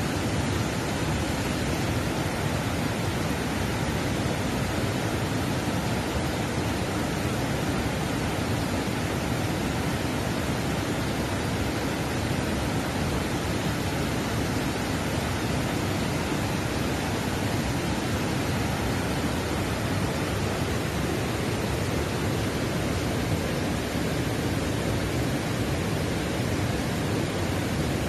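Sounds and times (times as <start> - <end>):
rapids rushing over rocks: 0.0 - 28.0.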